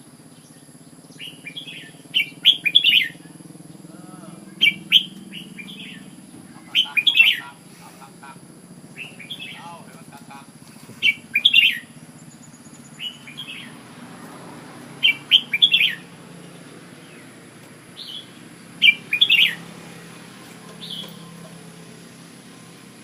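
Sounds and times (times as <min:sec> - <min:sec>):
bird singing warbled phrases: 0:00.0 - 0:14.2, 0:14.8 - 0:23.0
steady low hum: 0:00.0 - 0:23.0.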